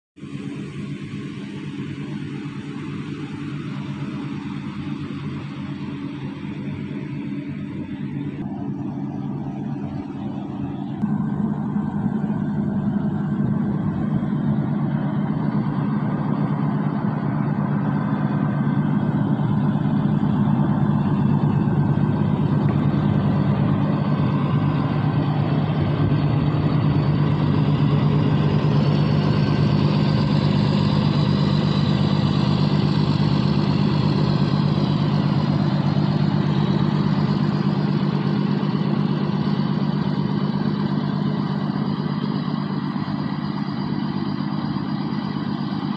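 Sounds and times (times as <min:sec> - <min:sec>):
excavator diesel engine running: 0:00.2 - 0:45.9
high whine: 0:00.2 - 0:45.9.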